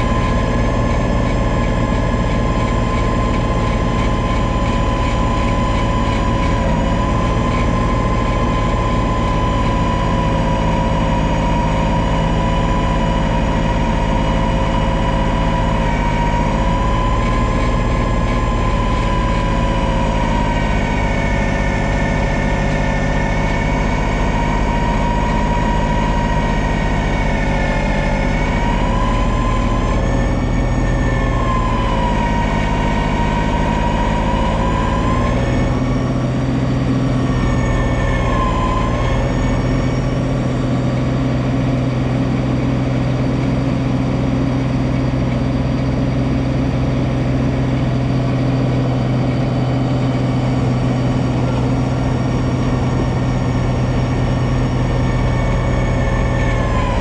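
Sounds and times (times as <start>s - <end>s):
high snow blower whine: 0.0s - 57.0s
tractor engine drone: 0.0s - 57.0s.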